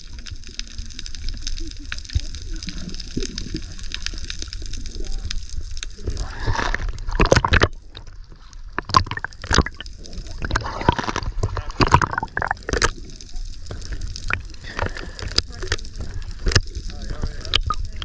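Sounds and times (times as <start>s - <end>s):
muffled underwater sound: 0.0s - 18.0s.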